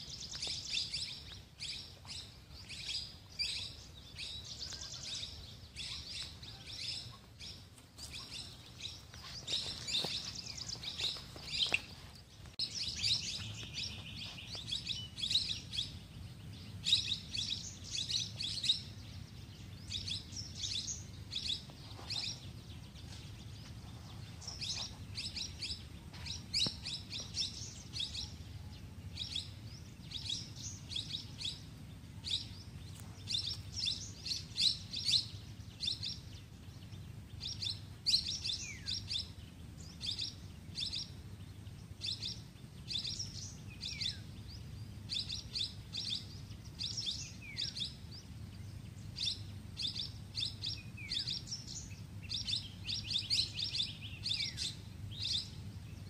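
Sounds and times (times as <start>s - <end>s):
low steady background rumble: 0.0s - 56.0s
small birds chirping: 0.0s - 56.0s.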